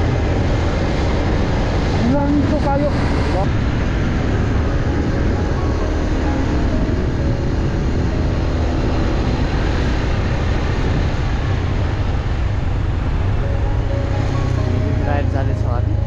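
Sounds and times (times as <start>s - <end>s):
motorcycle engine drone: 0.0s - 16.0s
wind rushing over microphone: 0.0s - 16.0s.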